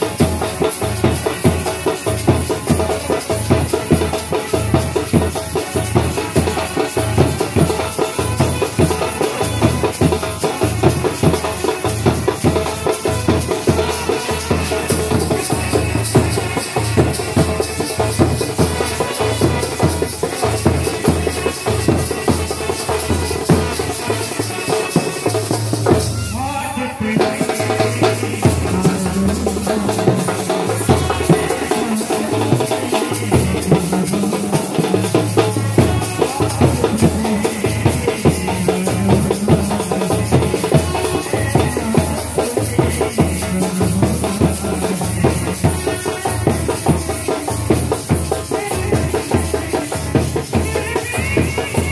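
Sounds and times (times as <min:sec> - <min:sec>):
driving drum beat: 0:00.0 - 0:51.9.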